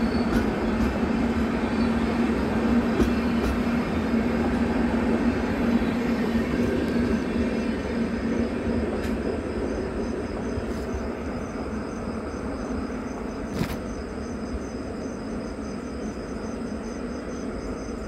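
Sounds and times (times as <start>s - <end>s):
crickets chirping: 0.0s - 18.0s
train rumbling on rails: 0.0s - 18.0s.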